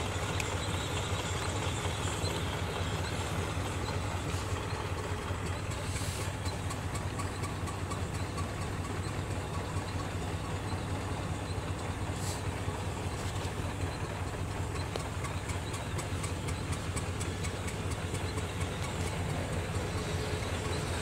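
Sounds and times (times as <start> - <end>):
gas engine running: 0.0 - 21.0.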